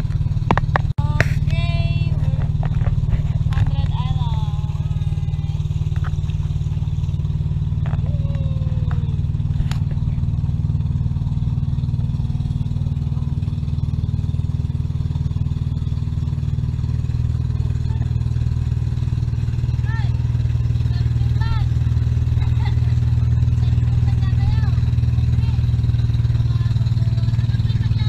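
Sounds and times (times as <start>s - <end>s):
motorboat engine droning: 0.0s - 28.0s.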